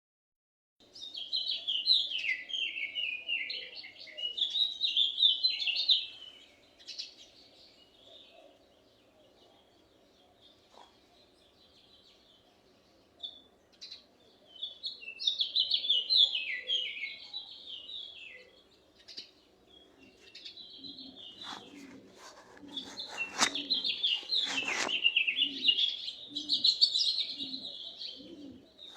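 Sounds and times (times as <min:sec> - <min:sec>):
songbird chirping: 0:00.8 - 0:28.9.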